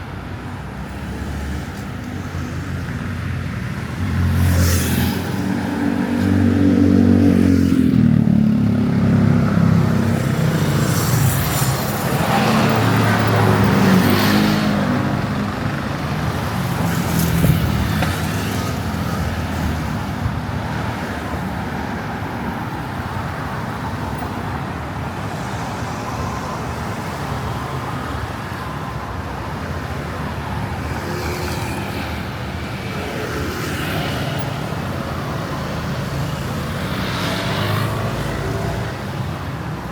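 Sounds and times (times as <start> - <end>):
steady traffic hum: 0.0 - 39.9.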